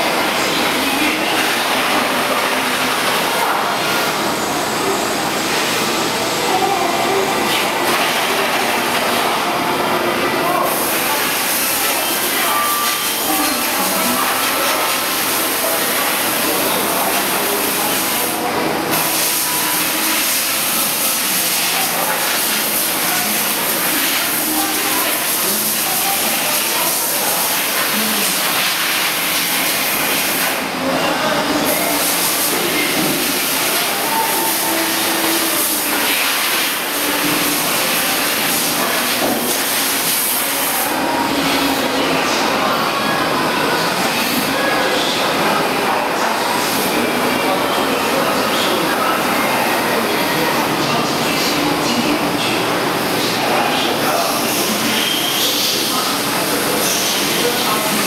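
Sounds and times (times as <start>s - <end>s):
industrial machinery hissing: 0.0s - 58.0s.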